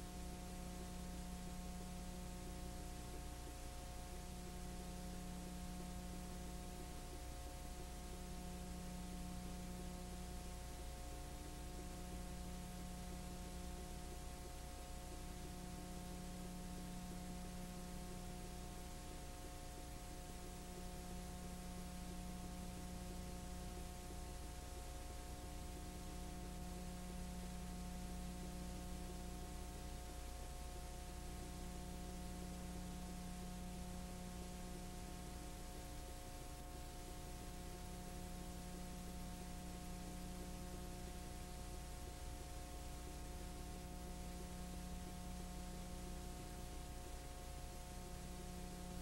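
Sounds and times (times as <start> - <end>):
electrical hum: 0.0 - 49.0.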